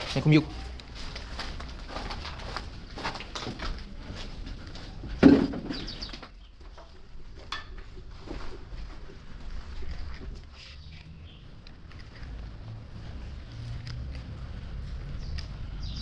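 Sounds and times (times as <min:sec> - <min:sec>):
footsteps: 0:00.0 - 0:15.8.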